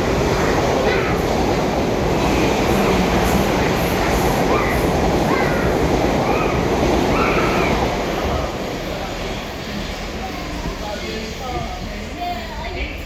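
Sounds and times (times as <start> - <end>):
freight train passing: 0.0 - 13.0
wheels rumbling on rails: 0.0 - 13.0.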